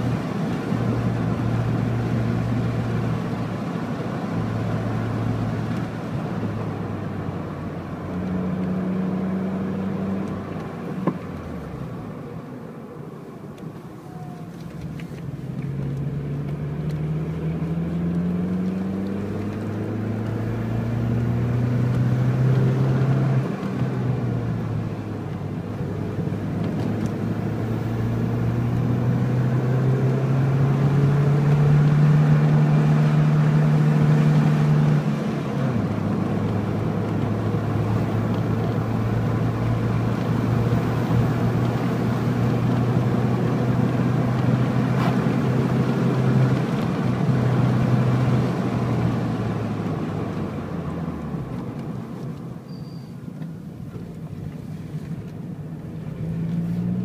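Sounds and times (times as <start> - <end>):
car engine running: 0.0 - 52.6
road noise: 0.0 - 57.0.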